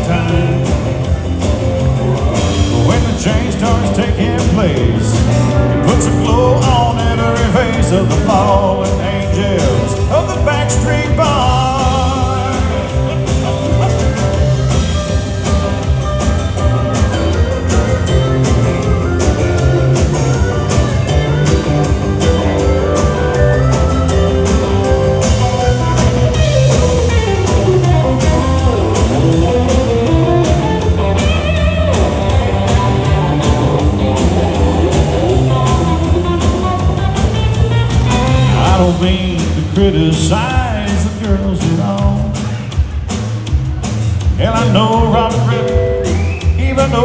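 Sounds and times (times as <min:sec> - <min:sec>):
electric guitar lead: 0:00.0 - 0:42.6, 0:44.4 - 0:47.0
bass: 0:00.0 - 0:47.0
drum kit beat: 0:00.0 - 0:47.0.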